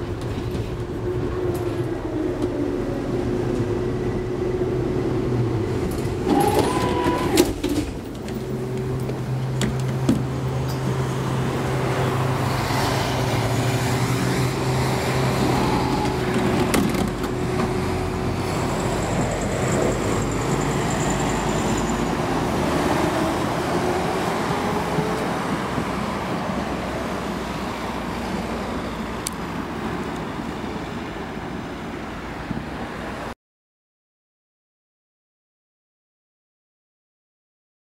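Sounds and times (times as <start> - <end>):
tram rolling on rails: 0.0 - 33.3
tram motor whine: 0.1 - 31.2.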